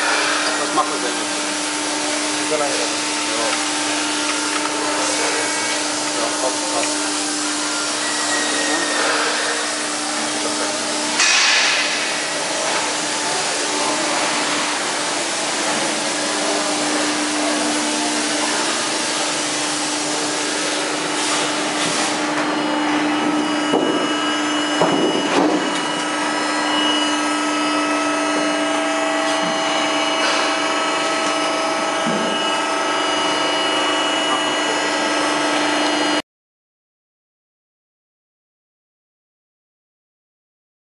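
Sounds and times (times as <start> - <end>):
hydraulic pump humming: 0.0 - 36.2.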